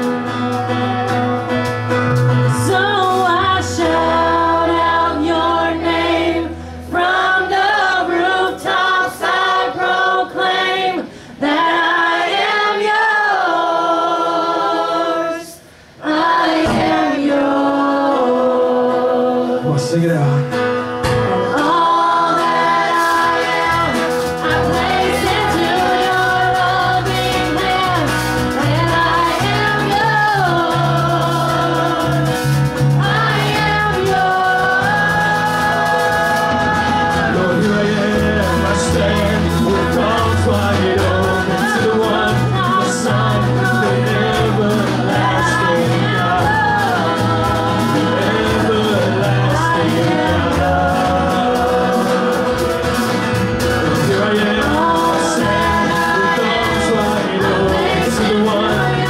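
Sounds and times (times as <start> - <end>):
bass guitar: 0.0 - 9.6, 19.6 - 59.0
drums: 0.0 - 19.2, 20.3 - 59.0
acoustic guitar: 0.0 - 59.0
women singing: 2.5 - 19.6, 21.4 - 53.2, 53.8 - 59.0.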